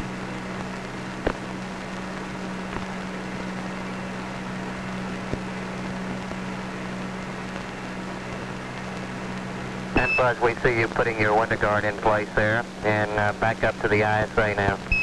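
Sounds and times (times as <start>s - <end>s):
radio channel hiss and hum: 0.0s - 15.0s.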